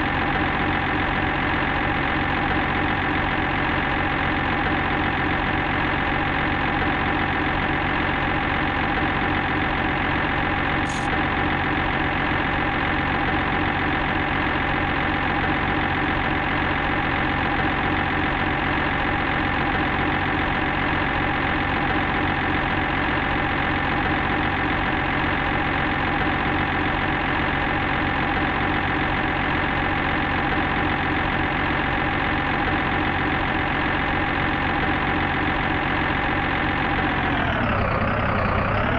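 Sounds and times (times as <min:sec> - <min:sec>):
construction machine engine idling: 0:00.0 - 0:38.9.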